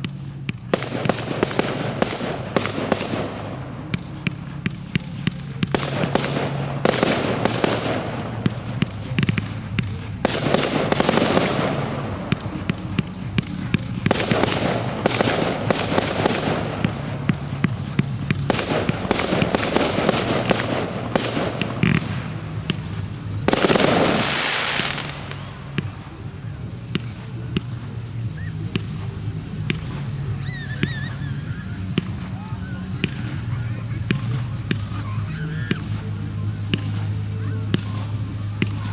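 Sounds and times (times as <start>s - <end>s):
fireworks bangs: 0.7s - 35.1s
fireworks hissing: 0.7s - 38.9s.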